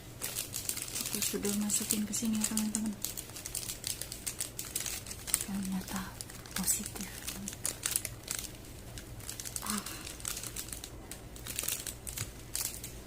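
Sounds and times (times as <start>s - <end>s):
crinkly packaging crackling: 0.0s - 13.0s.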